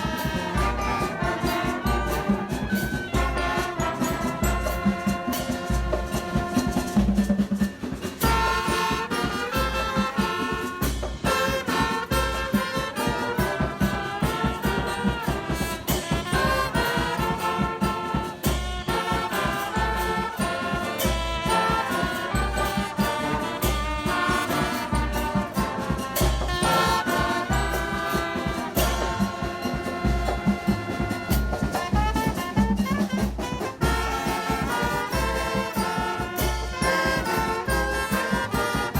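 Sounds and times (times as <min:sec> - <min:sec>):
background music with beat: 0:00.0 - 0:38.9.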